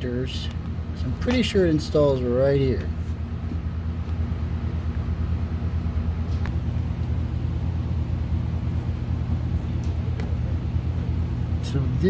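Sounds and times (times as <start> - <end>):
low pulsing mechanical drone: 0.0 - 12.0.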